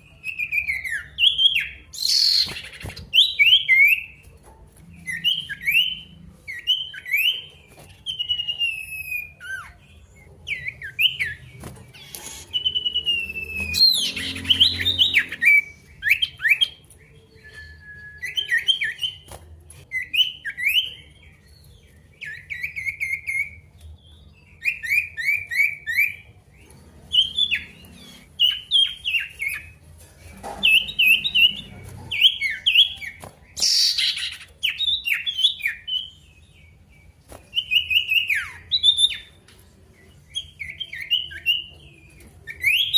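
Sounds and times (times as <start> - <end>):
songbird chirping song: 0.0 - 42.9.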